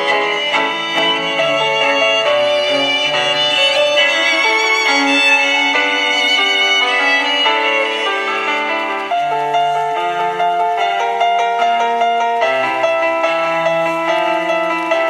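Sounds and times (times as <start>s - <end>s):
lower accompanying notes: 0.0s - 15.0s
violin melody: 0.0s - 15.0s.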